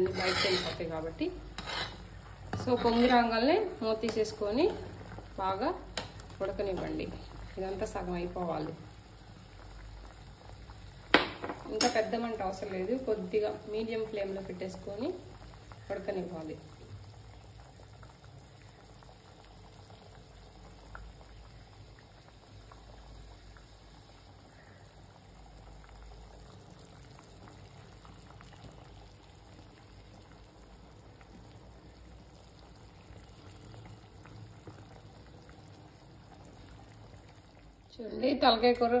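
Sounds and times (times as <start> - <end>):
curry bubbling in a pot: 0.0 - 39.0.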